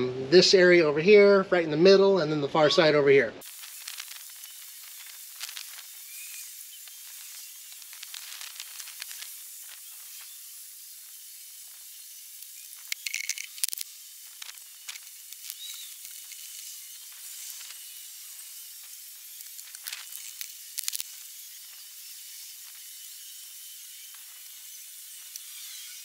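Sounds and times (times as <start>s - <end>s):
crackles and clicks: 3.4s - 26.0s
sped-up high hiss: 3.4s - 26.0s.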